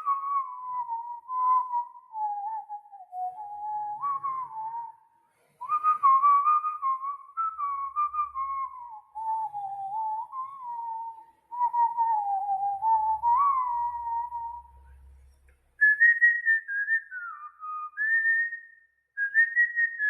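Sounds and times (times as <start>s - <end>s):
person whistling a melody: 0.0s - 15.1s, 15.8s - 20.0s.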